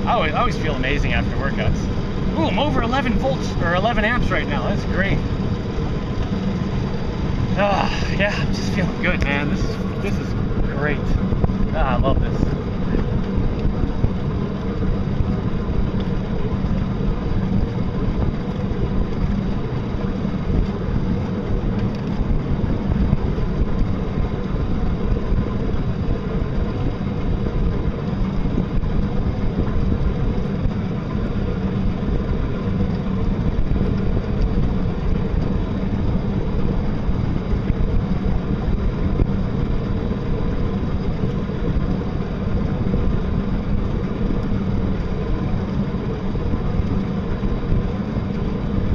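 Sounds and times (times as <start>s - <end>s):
faint electric motor hum: 0.0s - 48.9s
rush of wind and water: 0.0s - 48.9s.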